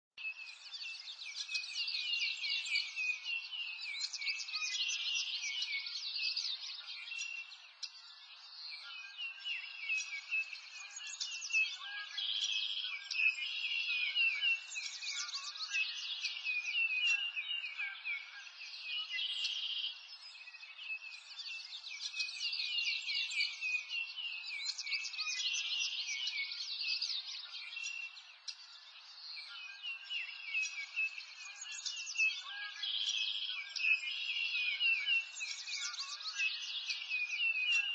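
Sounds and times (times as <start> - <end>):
small birds chirping: 0.2 - 37.9.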